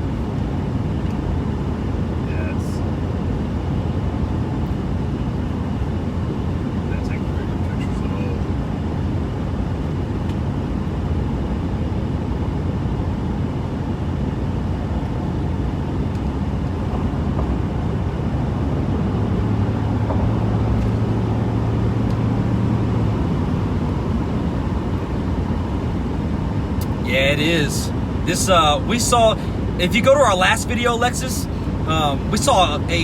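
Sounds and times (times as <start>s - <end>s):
car cabin road noise: 0.0s - 33.0s.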